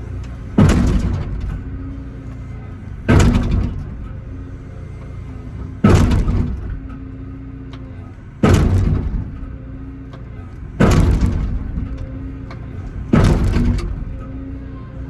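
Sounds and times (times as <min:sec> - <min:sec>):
diesel engine running: 0:00.0 - 0:15.0
excavator bucket slamming concrete: 0:00.0 - 0:15.0.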